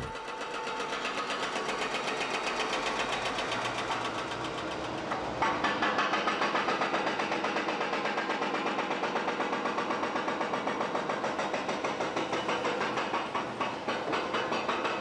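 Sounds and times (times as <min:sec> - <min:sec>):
rapid mechanical knocking: 0:00.0 - 0:15.0.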